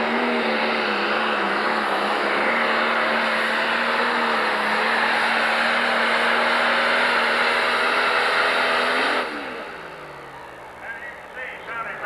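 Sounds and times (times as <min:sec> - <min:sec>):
diesel engine at full throttle: 0:00.0 - 0:12.0.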